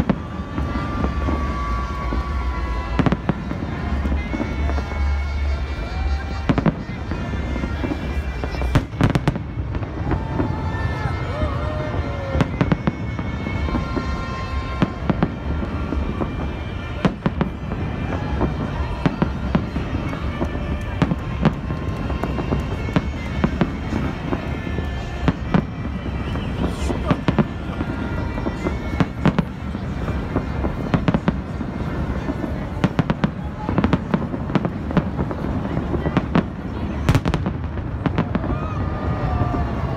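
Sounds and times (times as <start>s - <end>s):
fireworks bangs and cracks: 0.0s - 39.9s.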